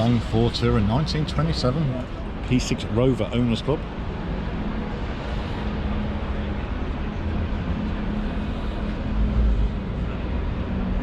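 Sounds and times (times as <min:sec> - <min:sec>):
crowd hubbub in a large hall: 0:00.0 - 0:11.0.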